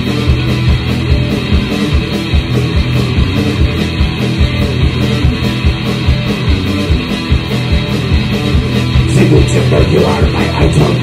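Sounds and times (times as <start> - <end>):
drum kit fast beat: 0.0 - 11.0
electric guitars: 0.0 - 11.0.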